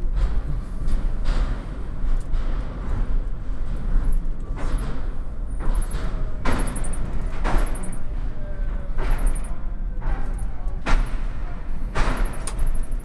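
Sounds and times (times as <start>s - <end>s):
train wheels rumbling on rails: 0.0s - 13.0s
wheels clunking over rail joints: 0.0s - 13.0s.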